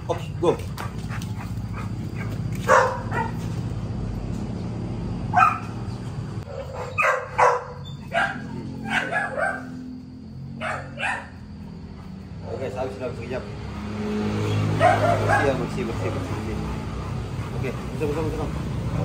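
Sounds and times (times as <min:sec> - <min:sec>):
large dog barking: 0:00.0 - 0:03.5, 0:05.3 - 0:05.8, 0:06.4 - 0:12.6, 0:13.8 - 0:19.0.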